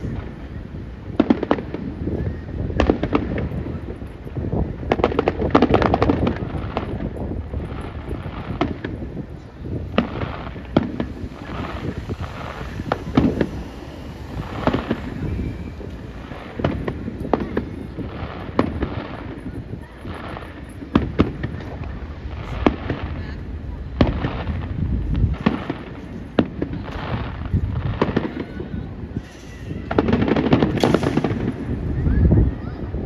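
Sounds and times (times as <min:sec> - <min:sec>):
fireworks crackling pops: 0:00.0 - 0:33.0
fireworks sharp bangs: 0:00.0 - 0:33.0.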